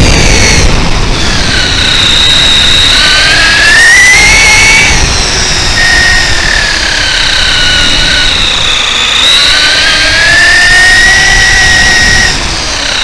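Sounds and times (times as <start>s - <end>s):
electric motor whining: 0.0s - 13.0s
rumbling tyre noise: 0.0s - 13.0s
wind noise: 0.0s - 13.0s.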